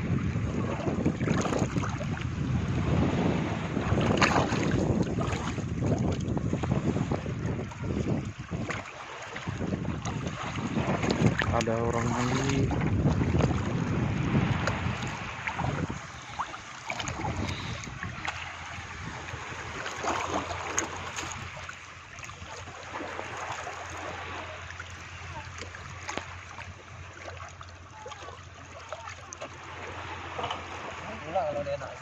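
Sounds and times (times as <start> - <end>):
waves lapping against boat hull: 0.0 - 32.0.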